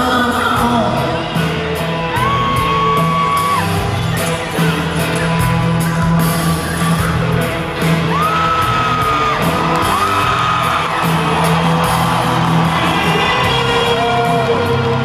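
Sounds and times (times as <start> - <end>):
live rock band playing: 0.0 - 15.0
crowd whooping: 2.0 - 15.0.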